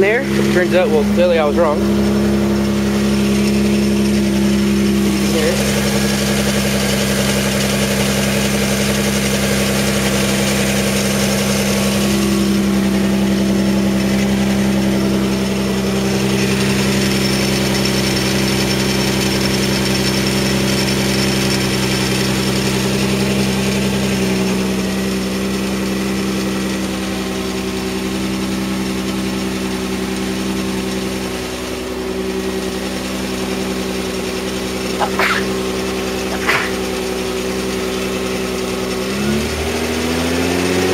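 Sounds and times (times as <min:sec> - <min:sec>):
car engine idling: 0:00.0 - 0:40.2
engine clacking and rattling: 0:00.0 - 0:40.9.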